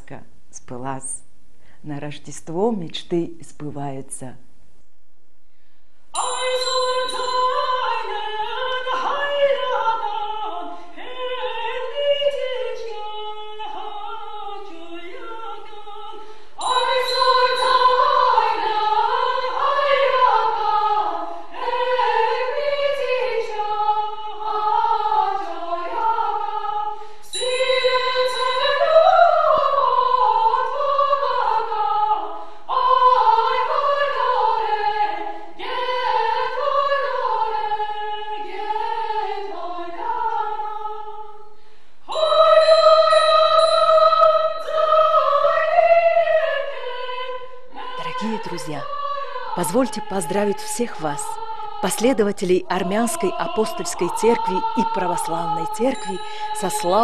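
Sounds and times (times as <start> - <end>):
women's choir singing a cappella: 6.2 - 57.0.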